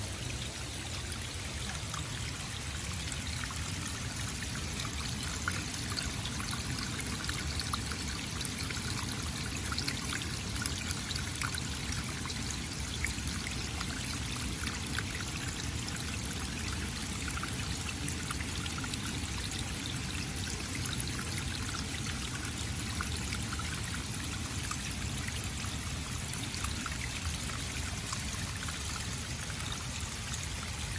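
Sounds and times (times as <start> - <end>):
running water flowing: 0.0 - 30.9.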